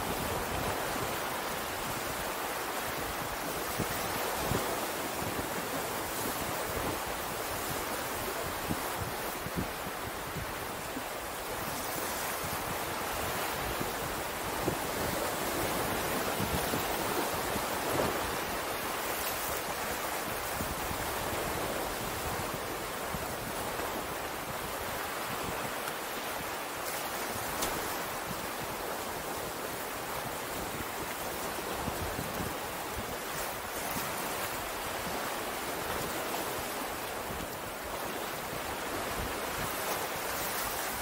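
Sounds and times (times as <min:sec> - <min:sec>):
waves breaking on shore: 0:00.0 - 0:41.0
wind buffeting microphone: 0:00.0 - 0:41.0.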